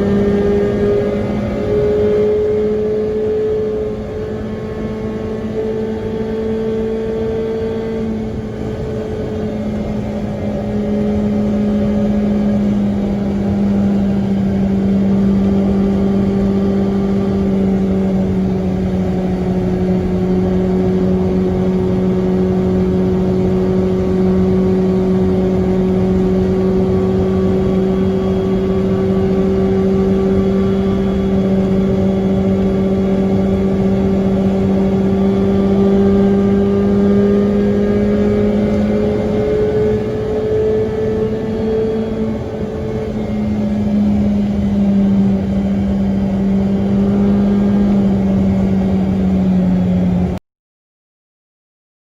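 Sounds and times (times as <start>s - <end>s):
small car engine droning: 0.0s - 50.4s.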